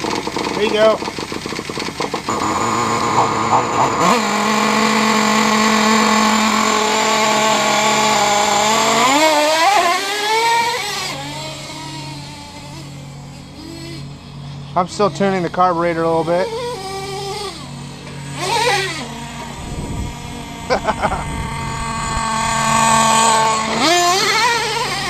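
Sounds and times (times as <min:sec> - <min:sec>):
small two-stroke engine revving: 0:00.0 - 0:25.0.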